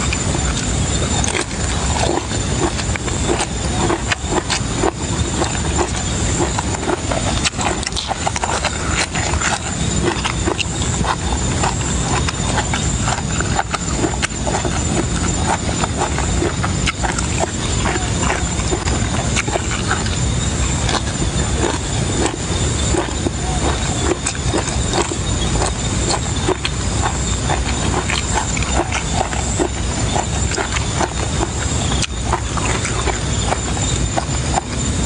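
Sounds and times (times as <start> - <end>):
chewing and lip-smacking: 0.0 - 35.0.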